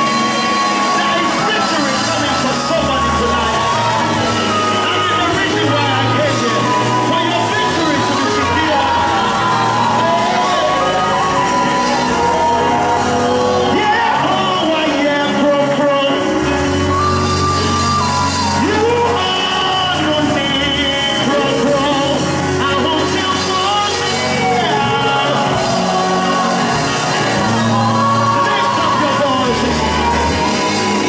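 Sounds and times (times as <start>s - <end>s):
bass: 0.0s - 31.0s
keyboard chords: 0.0s - 31.0s.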